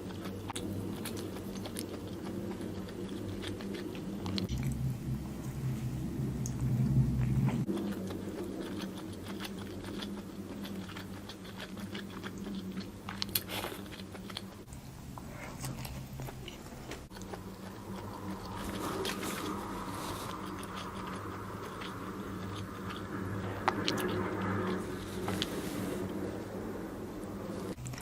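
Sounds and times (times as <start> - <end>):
person chewing food: 0.0 - 5.2, 6.1 - 26.6, 27.7 - 28.0
steady low hum: 0.0 - 28.0.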